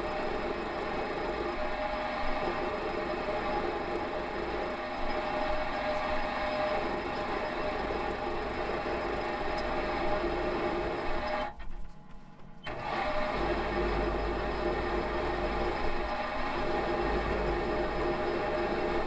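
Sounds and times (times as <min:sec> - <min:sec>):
metal lathe running: 0:00.0 - 0:11.5, 0:12.6 - 0:19.0.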